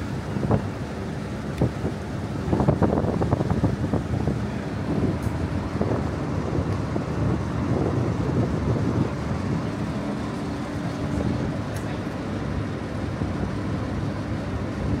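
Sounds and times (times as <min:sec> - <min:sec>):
ferry engine low drone: 0:00.0 - 0:15.0.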